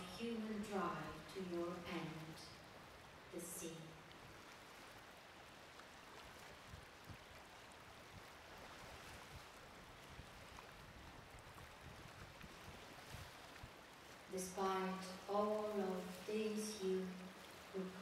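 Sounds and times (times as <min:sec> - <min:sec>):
river water rushing and lapping: 0:00.0 - 0:18.0.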